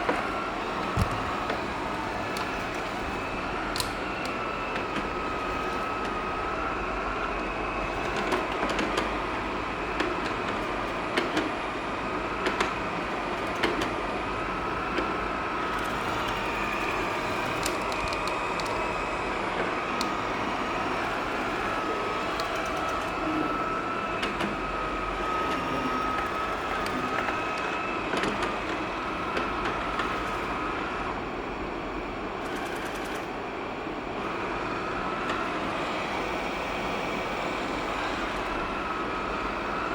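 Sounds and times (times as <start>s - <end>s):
robot vacuum motor whine: 0.0s - 9.9s, 10.6s - 31.2s, 34.2s - 39.9s.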